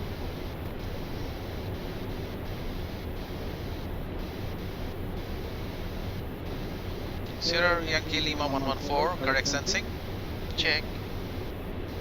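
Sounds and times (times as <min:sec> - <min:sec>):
rushing airflow in cockpit: 0:00.0 - 0:12.0.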